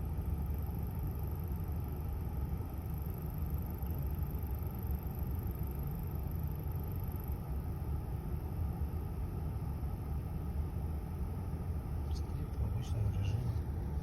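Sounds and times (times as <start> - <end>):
faint high whine: 0.0 - 14.0
heater blower fan running: 0.0 - 14.0.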